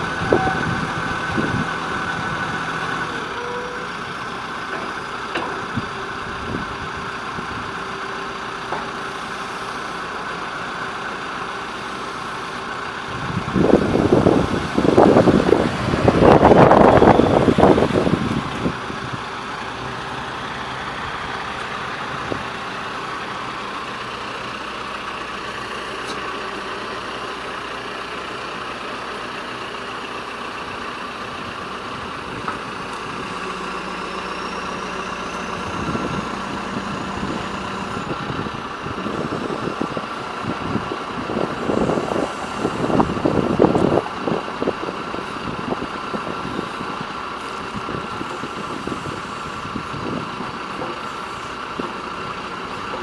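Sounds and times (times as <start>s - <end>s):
diesel engine running: 0.0s - 53.0s
loud uneven engine noise: 0.0s - 53.0s.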